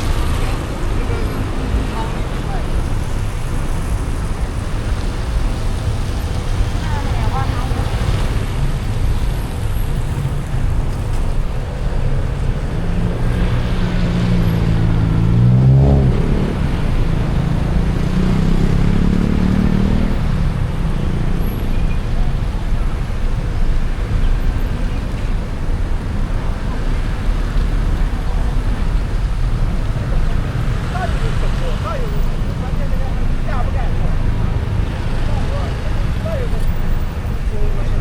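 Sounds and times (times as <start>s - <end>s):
car tyres on wet road: 0.0s - 38.0s
vehicle engine accelerating: 0.0s - 38.0s.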